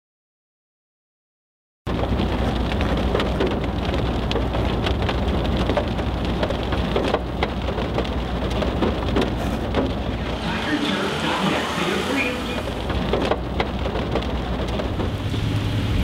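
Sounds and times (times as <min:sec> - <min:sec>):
low rumble: 0:01.9 - 0:16.0
rain pattering on a hard surface: 0:01.9 - 0:16.0.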